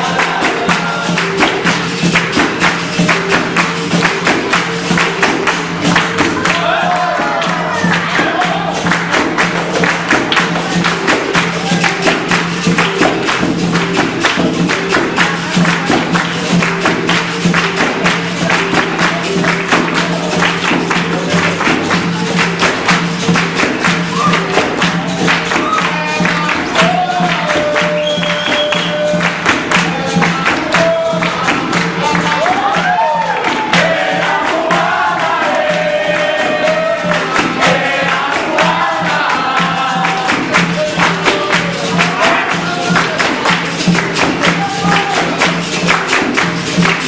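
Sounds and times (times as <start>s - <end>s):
hand drums: 0.0s - 47.0s
hand-clapping: 0.0s - 47.0s
voices singing: 0.0s - 47.0s.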